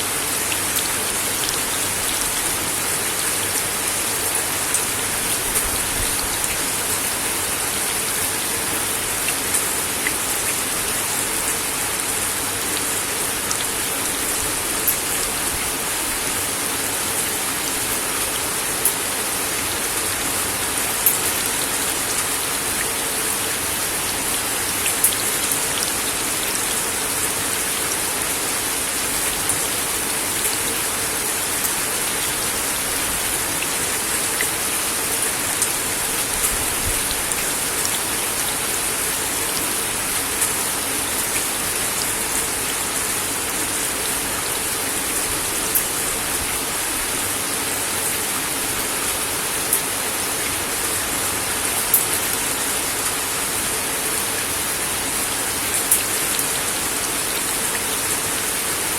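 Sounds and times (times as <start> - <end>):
rain on a wooden deck: 0.0 - 58.9.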